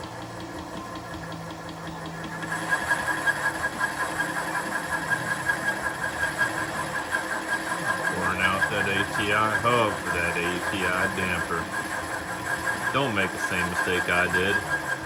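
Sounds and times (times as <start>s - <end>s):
milling machine whining: 0.0s - 15.0s.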